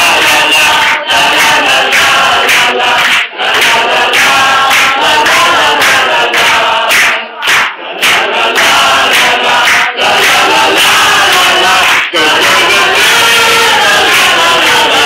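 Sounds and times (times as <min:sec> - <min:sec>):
crowd singing loudly together: 0:00.0 - 0:15.0.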